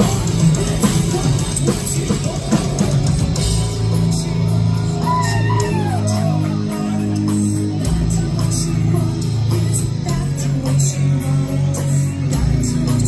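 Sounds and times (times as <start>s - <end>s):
distorted guitars: 0.0s - 13.0s
heavy metal band playing live: 0.0s - 13.0s.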